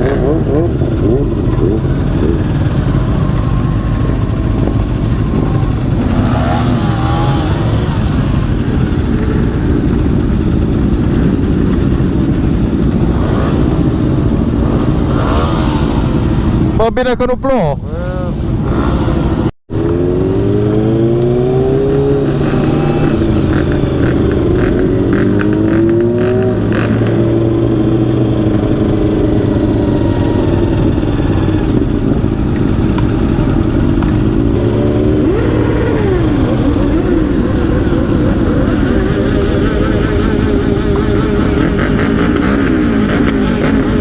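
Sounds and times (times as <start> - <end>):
motorcycle engine accelerating: 0.0 - 16.8, 17.9 - 44.0.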